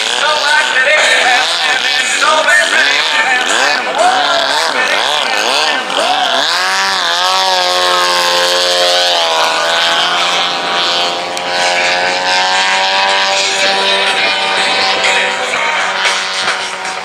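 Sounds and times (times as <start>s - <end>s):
model airplane engine droning: 0.0s - 17.0s.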